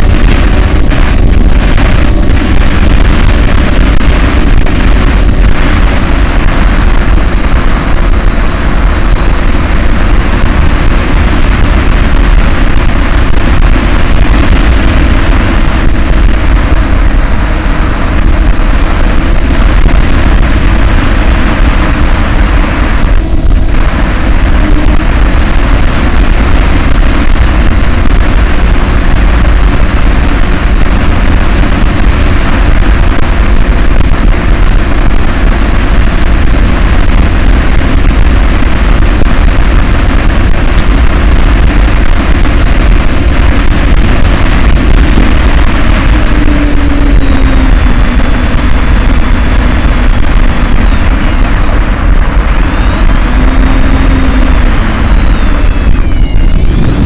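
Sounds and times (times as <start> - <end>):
electric motor and propeller whine: 0.0 - 57.0
wind rush on microphone: 0.0 - 57.0.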